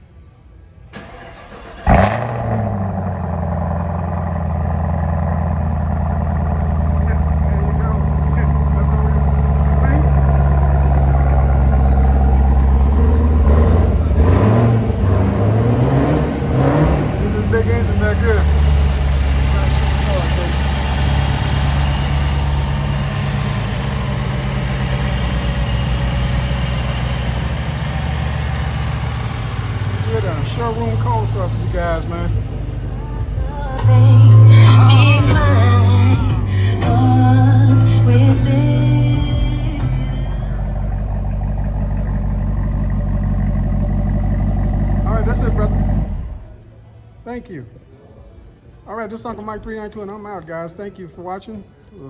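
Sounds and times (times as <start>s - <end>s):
car engine idling: 0.0s - 47.2s
car engine cranking: 0.9s - 46.7s
engine starting with loud flare: 0.9s - 46.7s.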